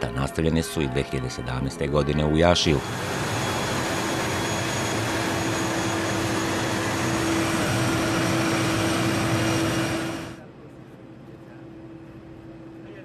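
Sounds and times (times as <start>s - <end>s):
turboprop engines running: 2.4s - 13.0s.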